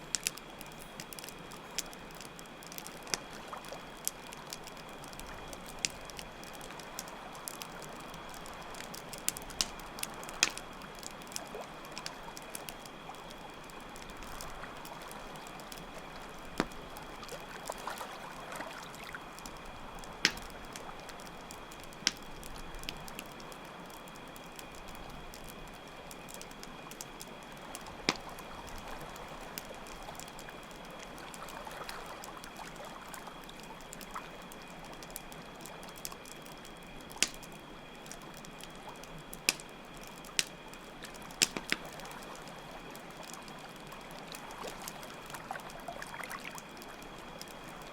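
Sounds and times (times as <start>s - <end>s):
campfire crackling: 0.0s - 47.9s
cricket trill: 0.0s - 47.9s.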